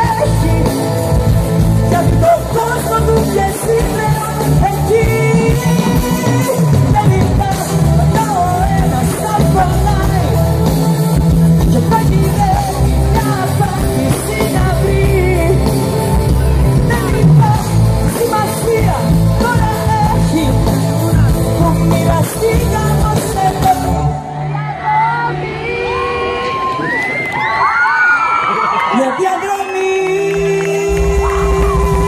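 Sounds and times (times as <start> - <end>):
live pop band with singing: 0.0 - 32.0.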